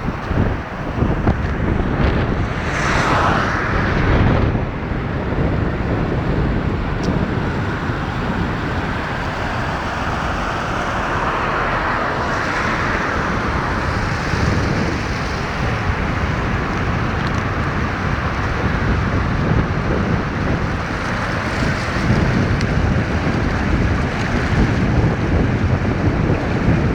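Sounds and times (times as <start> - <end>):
floodwater rushing: 0.0 - 26.9
wind on microphone: 0.0 - 26.9.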